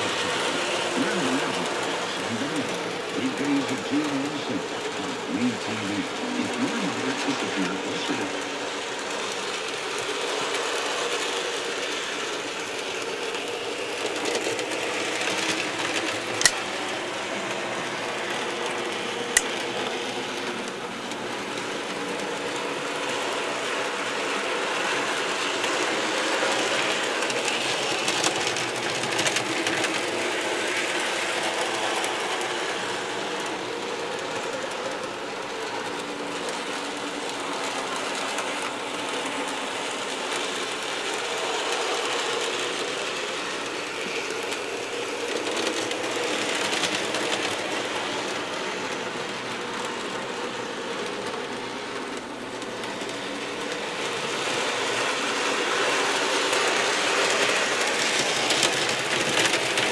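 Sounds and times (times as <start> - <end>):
model train motor whirring: 7.6 - 59.9.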